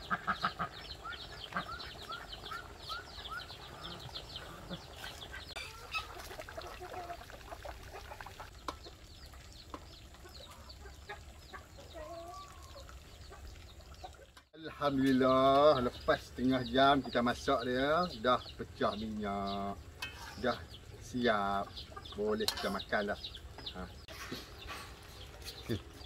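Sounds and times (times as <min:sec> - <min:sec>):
chickens and small birds chirping: 0:00.0 - 0:26.0.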